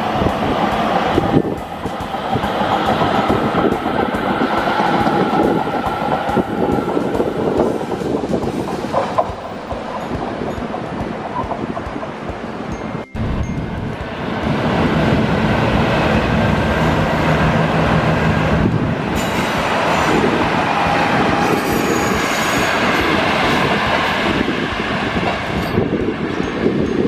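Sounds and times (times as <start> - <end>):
diesel railcar engine: 0.0 - 27.0
train wheels on rails: 0.0 - 27.0.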